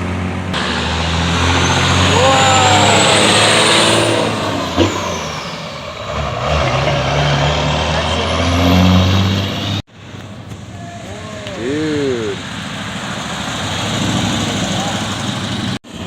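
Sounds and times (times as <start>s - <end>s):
car engine running: 0.0s - 7.0s, 9.4s - 16.0s.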